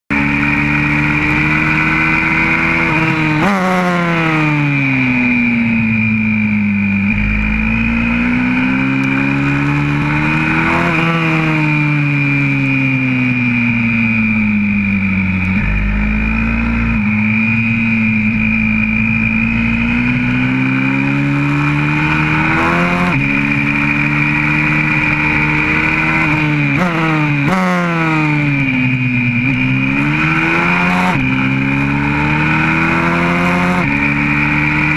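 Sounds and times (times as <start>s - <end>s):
motorbike engine revving: 0.1s - 34.9s.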